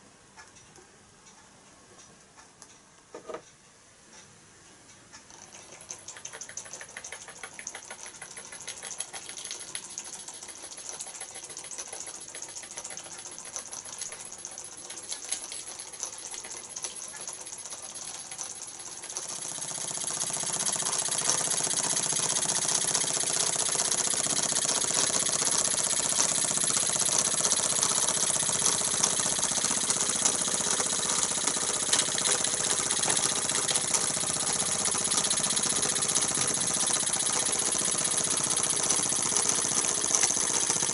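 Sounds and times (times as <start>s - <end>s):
toy steam engine clattering: 5.2s - 40.9s.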